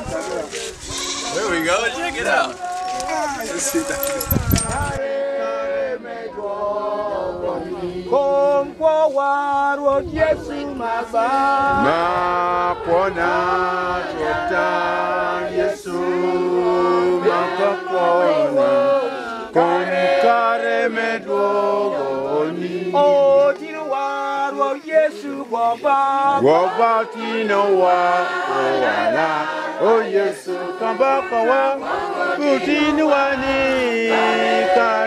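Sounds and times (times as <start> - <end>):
group singing a worship chant: 2.4 - 35.0.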